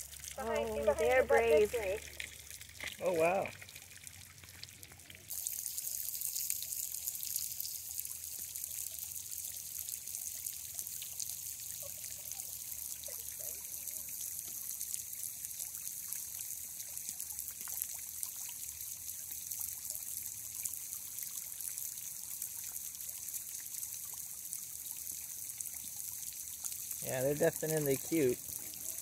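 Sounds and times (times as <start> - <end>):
water trickling into pond: 0.0 - 29.0.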